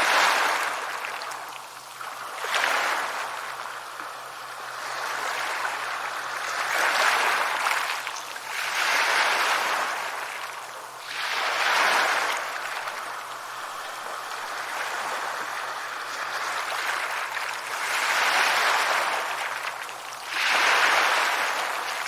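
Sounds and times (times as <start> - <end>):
sea waves breaking on shore: 0.0 - 22.0.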